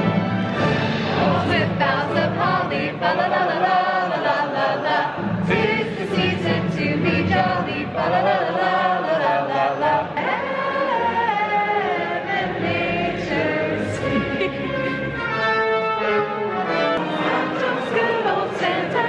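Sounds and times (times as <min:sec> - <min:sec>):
crowd singing with choir: 0:00.6 - 0:15.6, 0:16.2 - 0:19.0.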